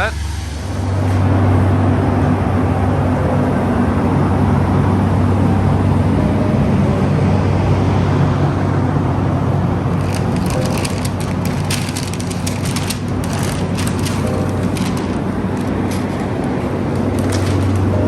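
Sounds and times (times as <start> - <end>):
loud machine drone: 0.0 - 18.0.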